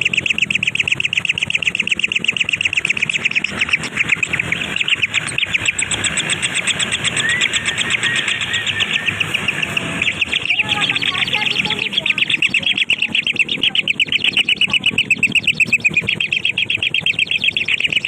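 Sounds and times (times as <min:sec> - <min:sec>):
nestlings chirping: 0:00.0 - 0:18.0.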